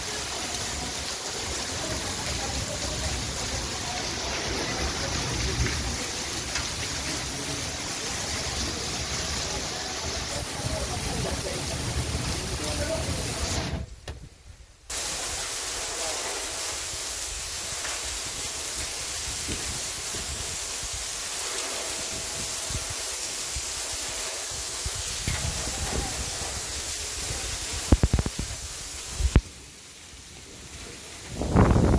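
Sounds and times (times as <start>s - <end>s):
heavy rain pouring: 0.0s - 14.0s, 14.9s - 31.9s.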